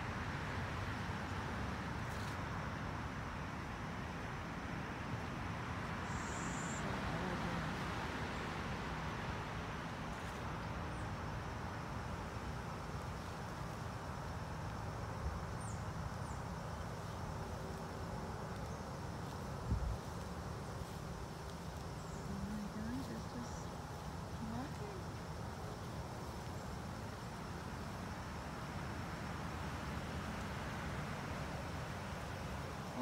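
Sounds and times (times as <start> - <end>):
distant road traffic: 0.0 - 33.0
faint insect drone: 0.0 - 33.0.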